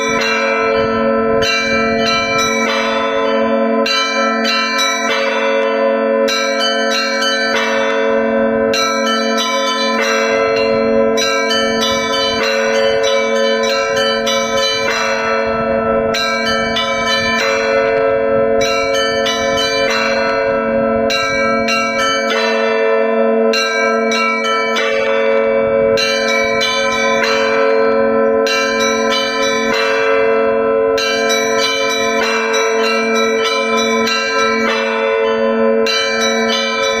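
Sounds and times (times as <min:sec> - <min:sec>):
low church bells humming: 0:00.0 - 0:37.0.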